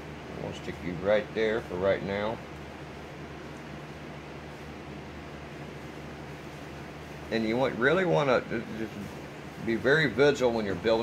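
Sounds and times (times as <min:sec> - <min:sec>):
constant low hum: 0:00.0 - 0:11.0.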